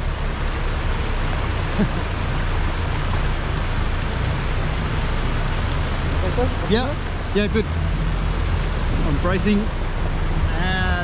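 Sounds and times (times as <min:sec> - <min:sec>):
vehicle engine droning: 0:00.0 - 0:11.0
wind and road noise: 0:00.0 - 0:11.0.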